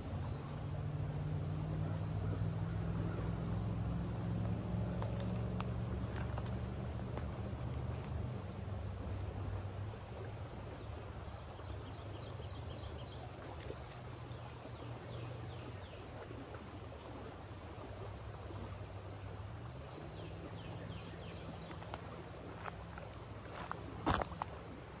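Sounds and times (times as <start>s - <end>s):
creek flowing over gravel: 0.0s - 25.0s
low steady hum: 0.0s - 25.0s.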